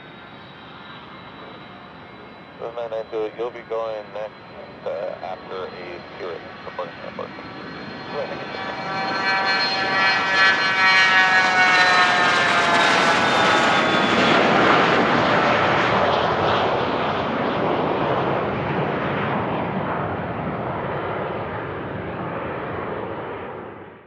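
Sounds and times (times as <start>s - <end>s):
jet passing by: 0.0s - 23.8s.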